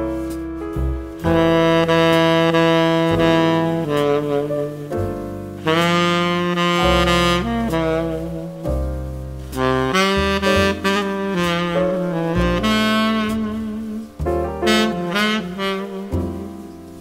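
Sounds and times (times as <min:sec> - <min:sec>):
tenor saxophone jazz phrase: 0:00.8 - 0:17.0.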